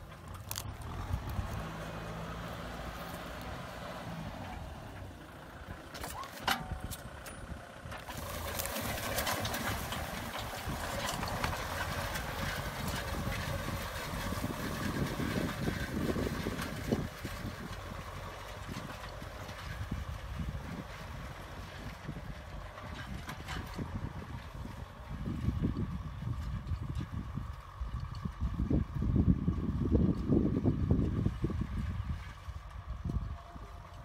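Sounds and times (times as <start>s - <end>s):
plow discs scraping through soil: 0.0s - 34.0s
tractor diesel engine under load: 0.0s - 34.0s.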